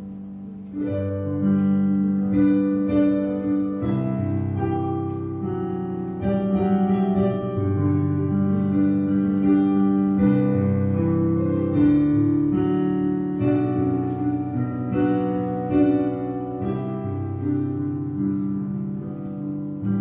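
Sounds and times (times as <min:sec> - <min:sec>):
slow instrumental music: 0:00.0 - 0:20.0.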